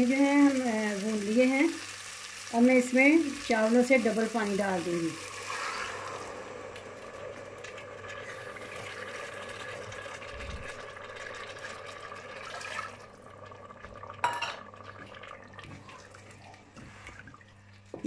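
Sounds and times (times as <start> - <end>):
pot hissing and bubbling: 0.0 - 18.0.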